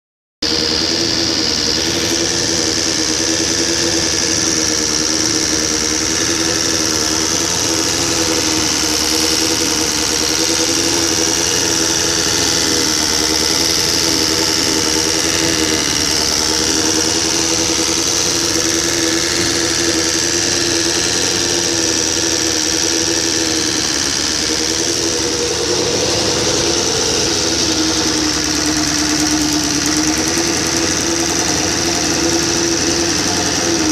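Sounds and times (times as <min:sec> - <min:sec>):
motorcycle engine running: 0:00.4 - 0:33.9
mechanical rattling noise: 0:00.5 - 0:33.9.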